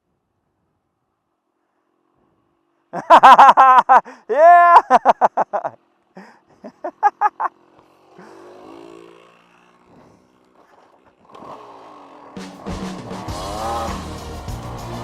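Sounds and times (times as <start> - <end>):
distant dirt bike engine revving: 1.4 - 15.0.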